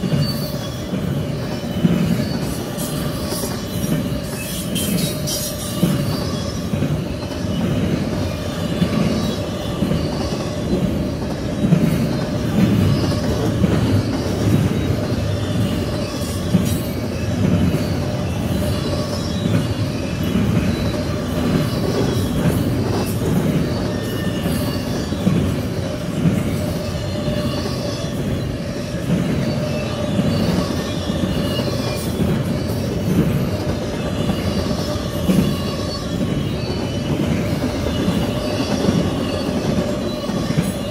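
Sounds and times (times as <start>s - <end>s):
freight train rumbling past: 0.0s - 40.9s
train wheels clattering: 0.0s - 40.9s
wheel squeaks on rail: 0.0s - 40.9s.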